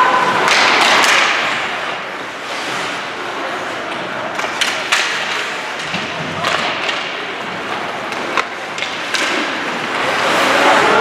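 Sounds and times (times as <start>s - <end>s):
background noise in echoing hall: 0.0s - 11.0s.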